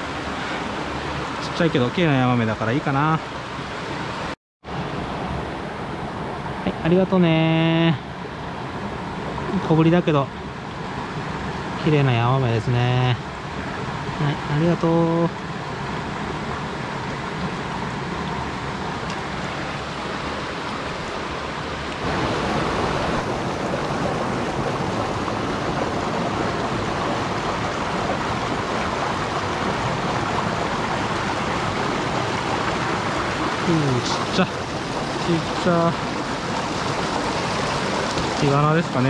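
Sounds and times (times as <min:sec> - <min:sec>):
stream rushing over rocks: 0:00.0 - 0:07.0, 0:13.4 - 0:39.0.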